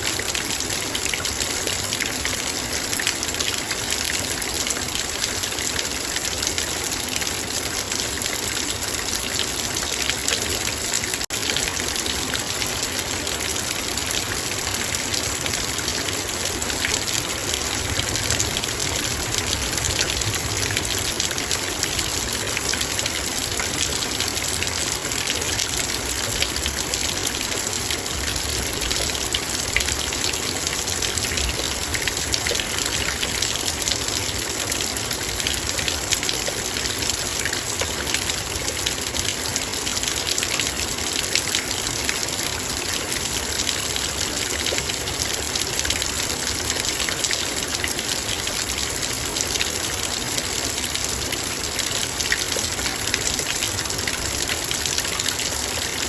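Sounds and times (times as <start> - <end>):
heavy rain on a metal bowl: 0.0 - 56.0.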